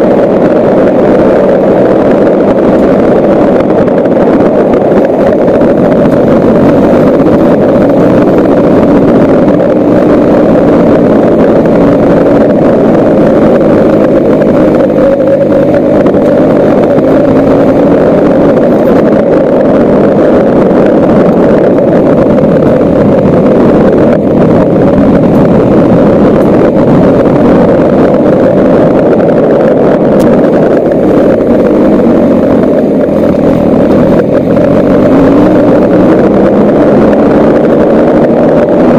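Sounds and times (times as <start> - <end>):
motorcycle engine running: 0.0 - 38.9
wind rushing: 0.0 - 38.9.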